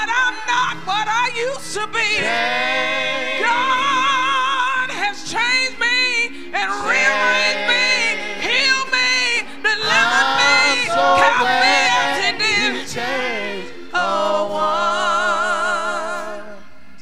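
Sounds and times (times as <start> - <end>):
group singing slow song: 2.1 - 17.0.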